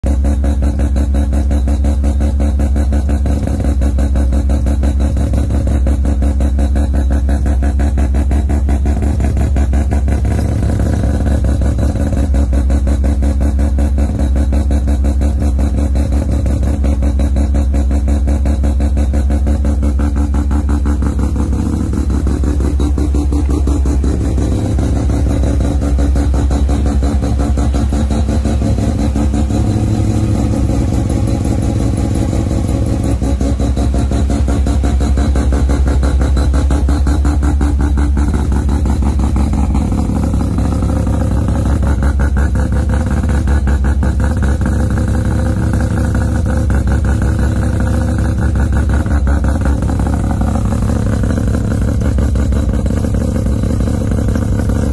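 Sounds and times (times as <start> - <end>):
rotary engine idling: 0.0 - 54.9.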